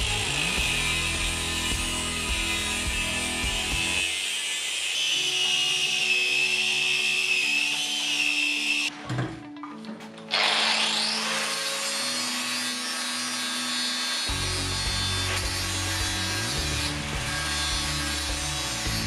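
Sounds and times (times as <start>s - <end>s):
background music with low notes: 0.0s - 4.3s, 5.3s - 19.0s
angle grinder cutting steel: 0.0s - 9.0s, 10.3s - 19.0s.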